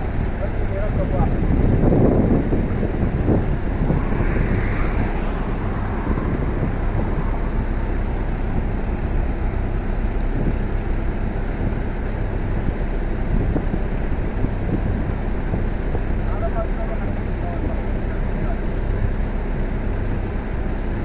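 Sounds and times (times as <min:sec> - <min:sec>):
truck engine and machinery rumble: 0:00.0 - 0:21.0.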